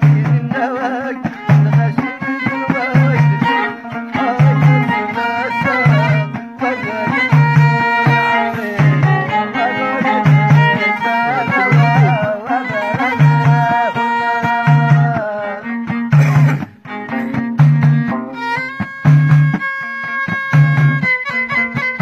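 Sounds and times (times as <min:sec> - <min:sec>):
frame drums beating: 0:00.0 - 0:22.0
long-necked lute: 0:00.0 - 0:22.0
violin melody: 0:00.0 - 0:22.0.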